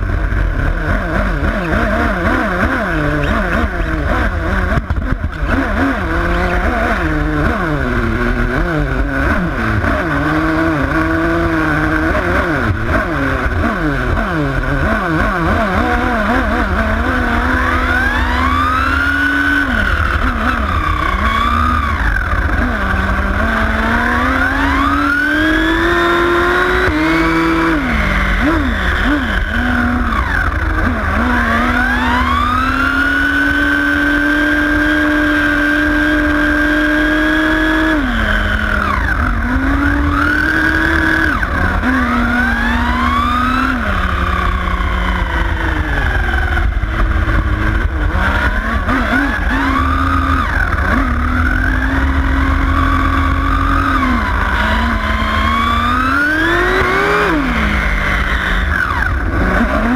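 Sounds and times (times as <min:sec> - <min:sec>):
rc car engine revving: 0:00.0 - 0:59.9.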